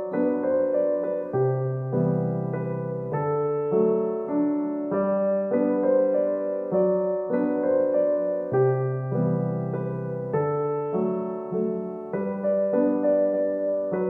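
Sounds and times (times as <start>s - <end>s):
instrumental piano music: 0.0s - 14.0s.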